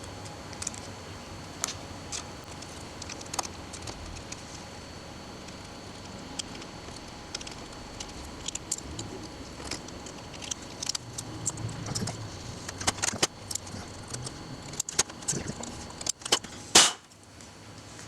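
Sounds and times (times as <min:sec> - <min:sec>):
vinyl decal crinkles and clicks: 0:00.0 - 0:18.0.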